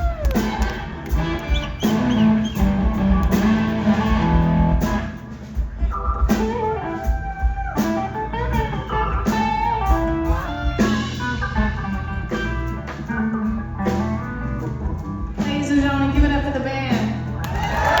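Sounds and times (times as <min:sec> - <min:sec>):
electric guitar lead with bent notes: 0:00.0 - 0:17.4
bass guitar: 0:00.0 - 0:18.0
drums: 0:00.0 - 0:18.0.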